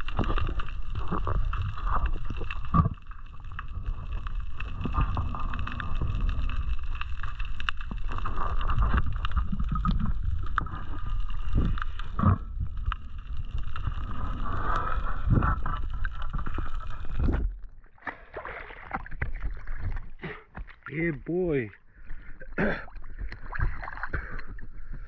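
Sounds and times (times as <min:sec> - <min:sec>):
underwater clicks and knocks: 0:00.0 - 0:14.0, 0:15.3 - 0:20.9, 0:22.8 - 0:25.0
muffled underwater rumble: 0:00.0 - 0:17.9, 0:18.9 - 0:25.0
water splashing: 0:00.0 - 0:24.8.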